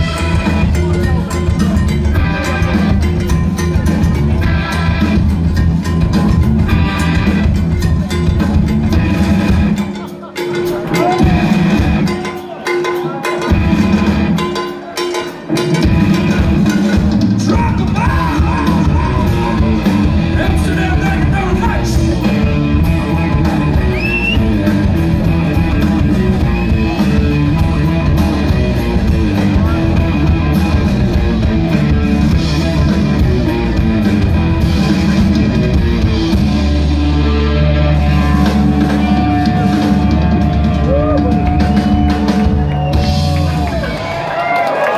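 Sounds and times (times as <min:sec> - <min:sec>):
live hard rock band: 0:00.0 - 0:44.9.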